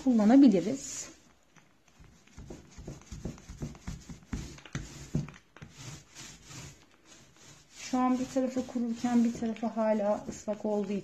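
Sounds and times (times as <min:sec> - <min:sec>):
paint roller rubbing on metal: 0:00.0 - 0:01.1, 0:02.3 - 0:11.0.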